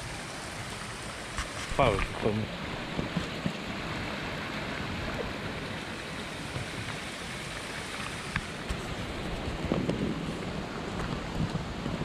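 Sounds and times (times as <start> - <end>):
brook running over stones: 0.0 - 12.0.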